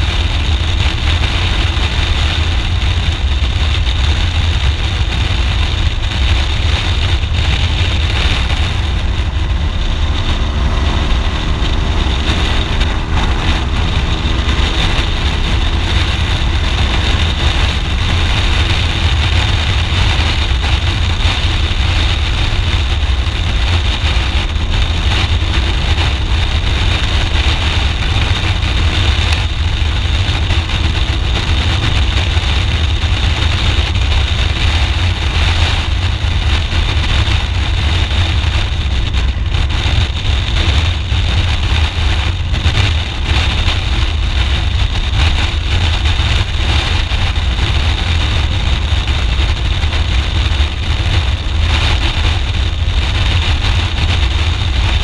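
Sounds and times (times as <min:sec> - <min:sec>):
motorcycle engine cruising: 0:00.0 - 0:55.0
wind rushing on microphone: 0:00.0 - 0:55.0.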